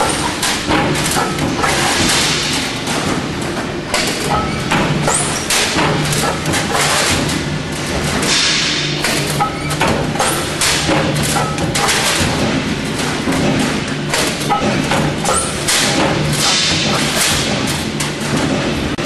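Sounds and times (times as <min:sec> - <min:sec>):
hydraulic press thumps and knocks: 0:00.0 - 0:19.0.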